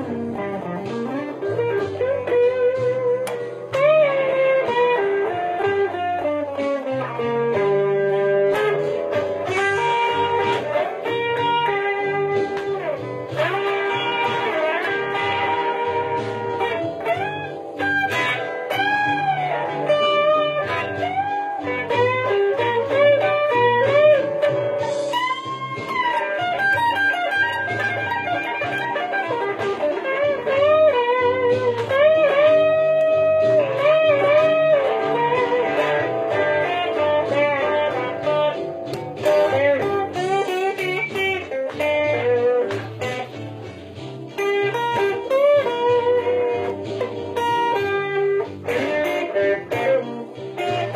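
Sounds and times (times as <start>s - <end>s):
electric guitar blues lead: 0.0s - 50.9s.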